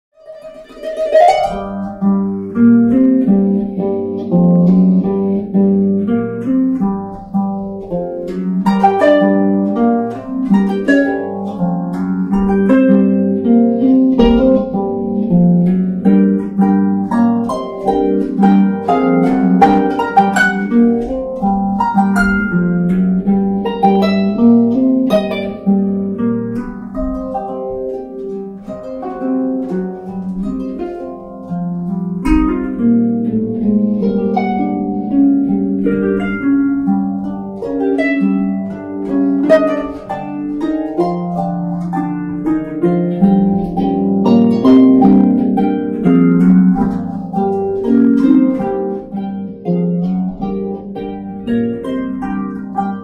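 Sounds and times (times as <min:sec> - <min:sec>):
harp music: 0:00.2 - 0:53.0.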